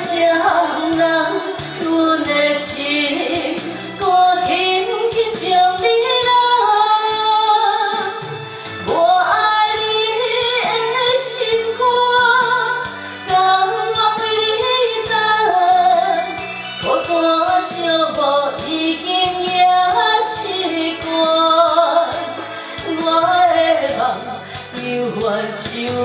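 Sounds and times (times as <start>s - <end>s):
karaoke backing track: 0.0s - 26.0s
woman singing into a microphone: 0.0s - 26.0s.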